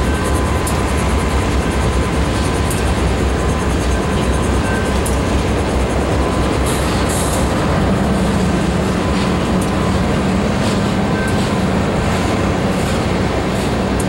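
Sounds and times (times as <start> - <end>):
diesel locomotive drone: 0.0 - 14.0
train wheels clicking on rail joints: 0.0 - 14.0.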